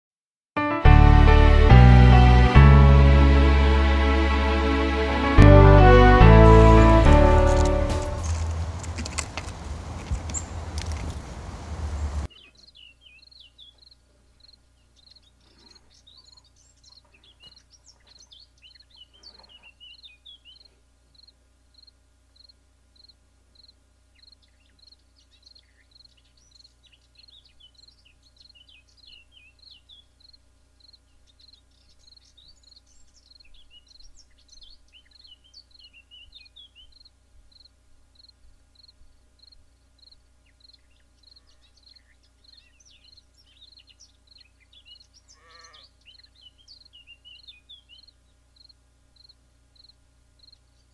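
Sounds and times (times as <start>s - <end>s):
birds twittering and chirping: 8.1s - 50.9s.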